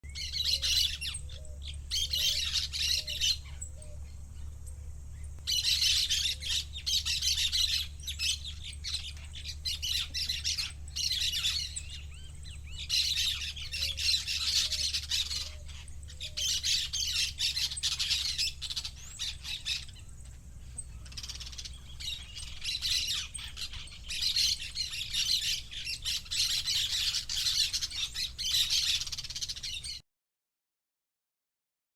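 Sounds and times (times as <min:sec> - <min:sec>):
steady low hum: 0:00.1 - 0:29.9.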